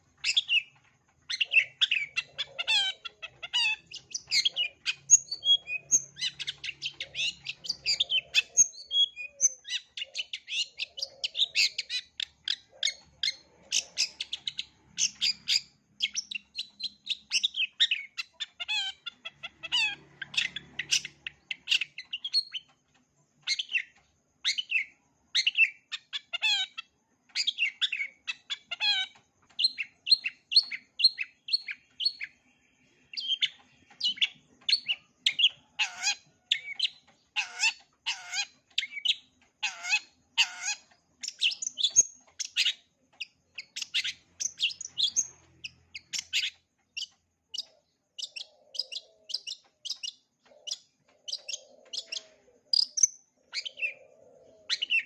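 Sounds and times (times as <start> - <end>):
shrike singing chirps and trills: 0.0 - 55.0.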